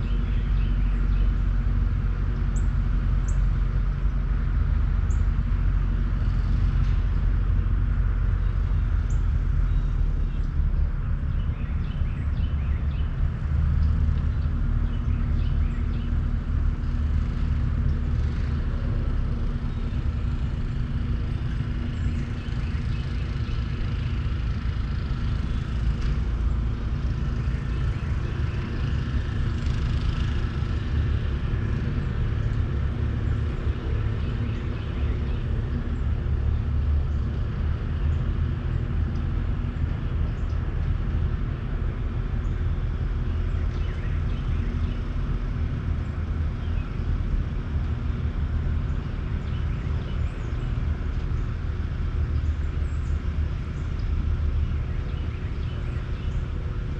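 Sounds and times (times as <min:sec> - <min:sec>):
steady low rumble: 0:00.0 - 0:56.9.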